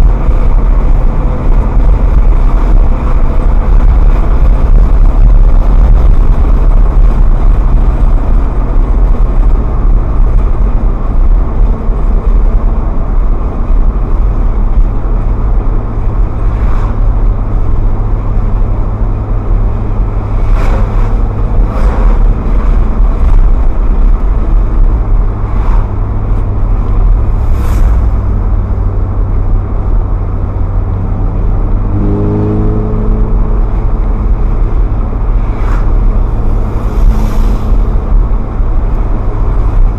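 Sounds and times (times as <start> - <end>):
car engine droning: 0.0 - 39.9
road noise: 0.0 - 39.9.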